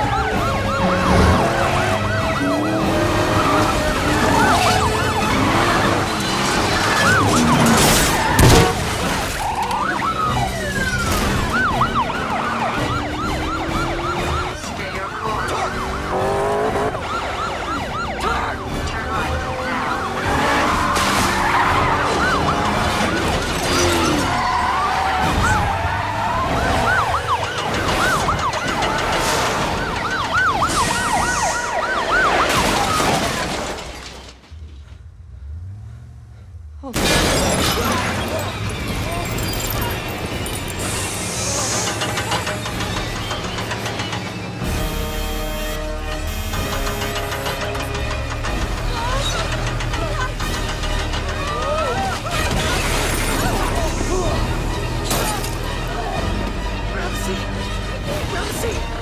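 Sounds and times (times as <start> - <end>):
police sirens yelping: 0.0 - 34.0, 37.0 - 59.0
car engines: 0.0 - 59.0
road noise: 0.0 - 59.0.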